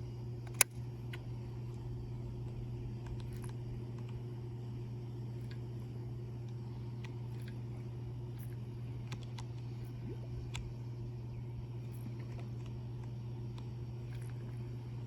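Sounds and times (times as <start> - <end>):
steady low hum: 0.0 - 15.0
faint clicks and ticks: 2.4 - 15.0.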